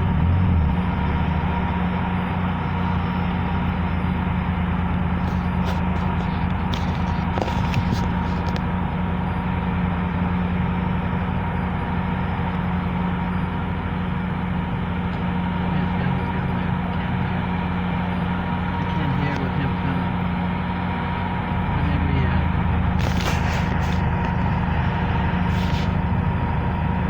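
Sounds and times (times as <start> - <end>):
diesel locomotive droning: 0.0 - 27.0.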